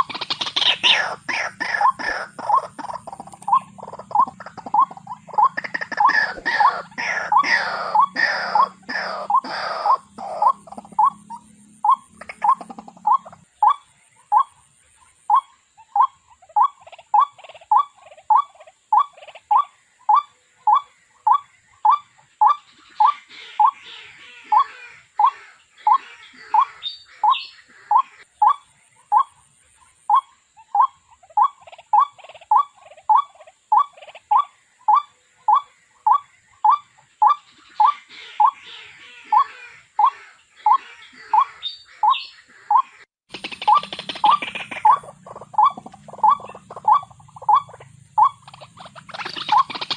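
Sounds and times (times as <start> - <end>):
small birds twittering: 0.0 - 49.9
waterhen calling: 0.0 - 49.9.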